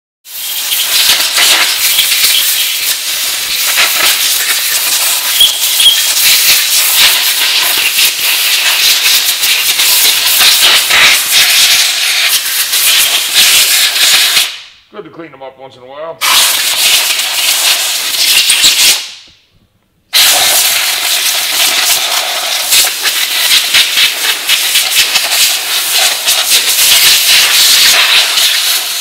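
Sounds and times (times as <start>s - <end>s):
air blow gun hissing: 0.3s - 14.6s, 16.2s - 19.2s, 20.1s - 29.0s.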